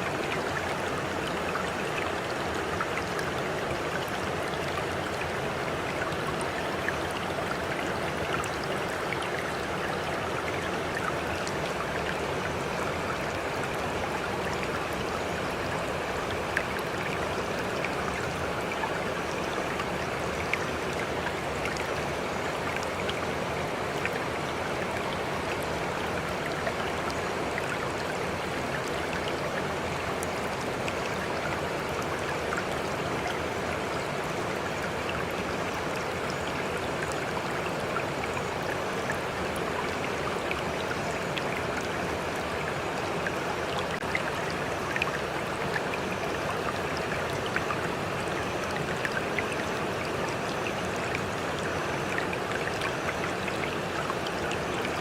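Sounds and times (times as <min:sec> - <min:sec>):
water rushing with small splashes: 0:00.0 - 0:55.0.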